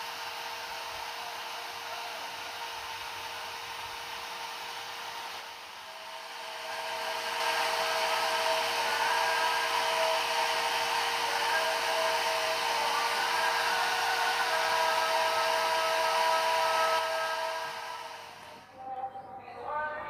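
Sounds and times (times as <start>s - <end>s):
steady hiss: 0.0s - 18.7s
faint steady hum: 0.0s - 20.0s.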